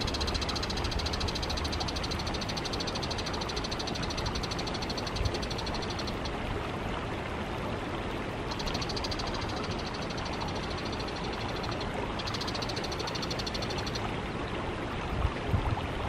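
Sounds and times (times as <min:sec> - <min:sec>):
stream babbling over pebbles: 0:00.0 - 0:16.0.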